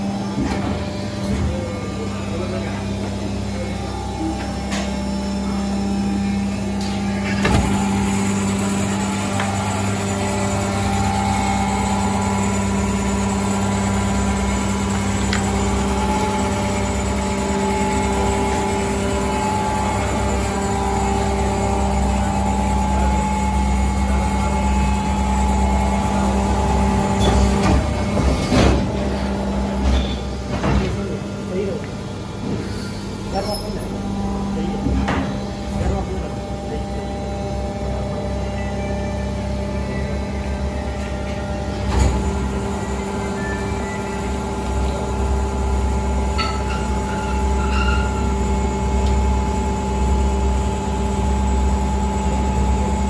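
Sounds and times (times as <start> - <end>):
machine hum with low tone: 0.0 - 53.0.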